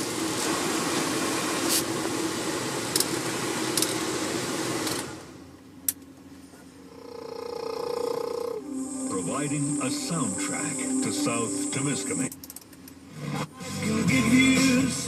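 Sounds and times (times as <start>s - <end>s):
heater blower fan running: 0.0s - 15.0s.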